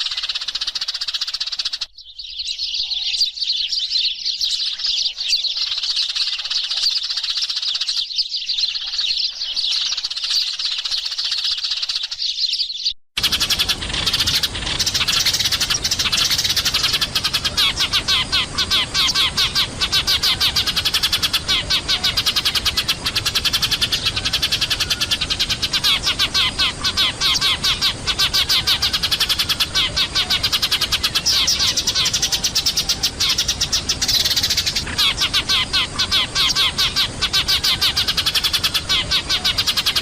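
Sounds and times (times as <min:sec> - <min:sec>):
sparrows chirping: 0:00.0 - 0:40.0.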